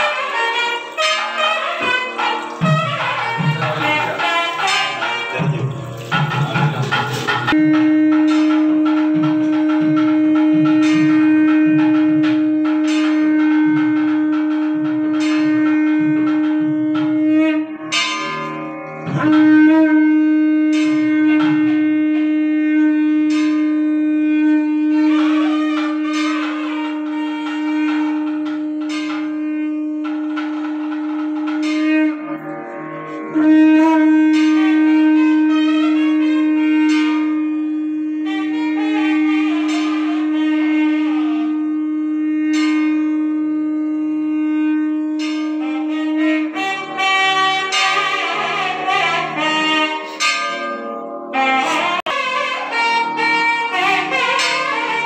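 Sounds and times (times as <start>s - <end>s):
double-reed melody: 0.0s - 55.0s.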